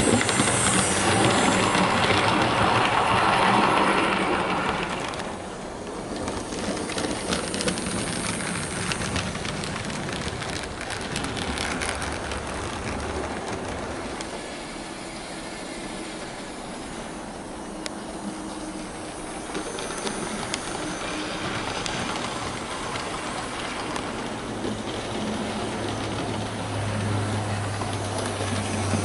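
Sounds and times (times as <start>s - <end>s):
wheels clicking over track: 0.0s - 15.1s, 17.8s - 29.0s
model train running: 0.0s - 29.0s.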